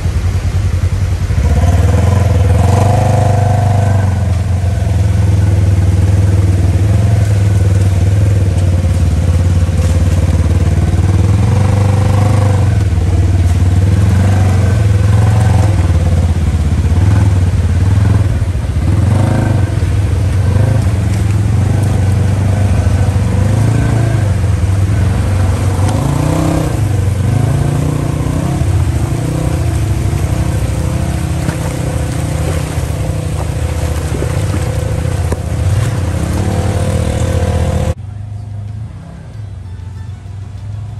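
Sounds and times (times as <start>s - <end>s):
utility vehicle engine running: 0.0s - 40.9s.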